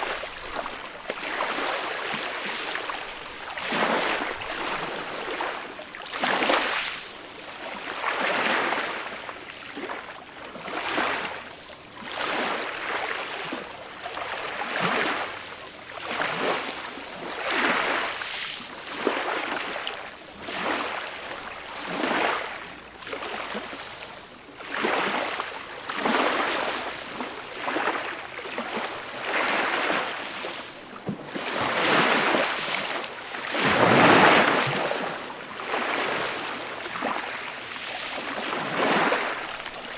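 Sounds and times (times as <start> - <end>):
sea waves washing up a beach: 0.0 - 39.9.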